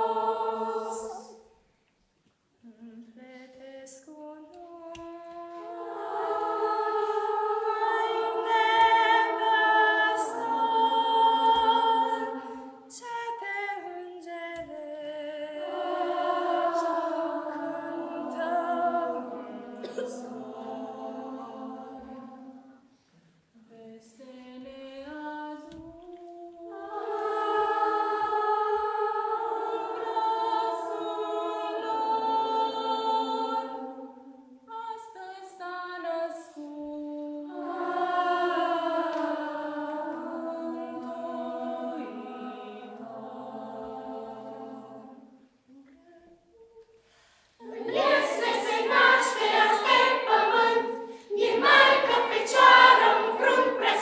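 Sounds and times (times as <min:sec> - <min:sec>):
children's choir singing a cappella: 0:00.0 - 0:01.7, 0:02.6 - 0:54.0.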